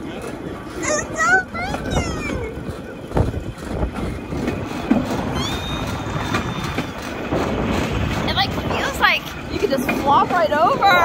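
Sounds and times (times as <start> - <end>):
steel wheels rumbling on track: 0.0 - 11.0
wheel clacks: 0.0 - 11.0.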